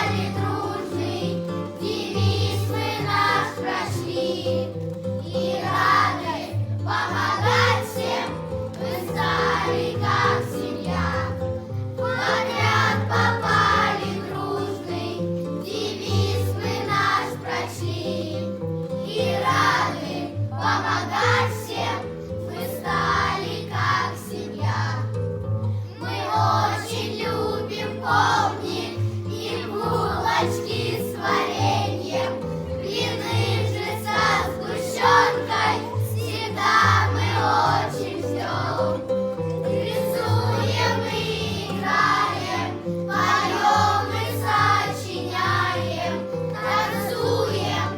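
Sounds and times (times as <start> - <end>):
children singing in unison: 0.0 - 25.0, 26.0 - 47.9.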